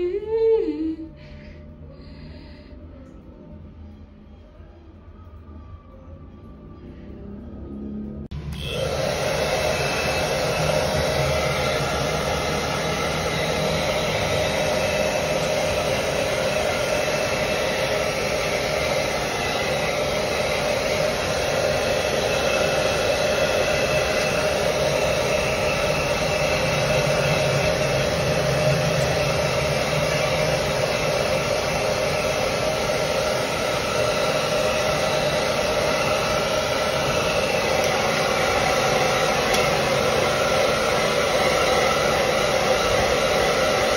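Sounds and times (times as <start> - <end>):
hair dryer running: 7.6 - 43.9.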